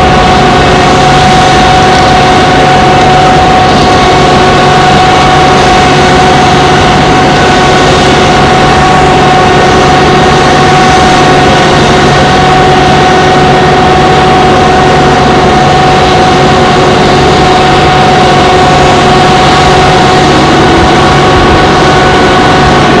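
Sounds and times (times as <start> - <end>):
constant machine whine: 0.0 - 23.0
plant machinery engine drone: 0.0 - 23.0.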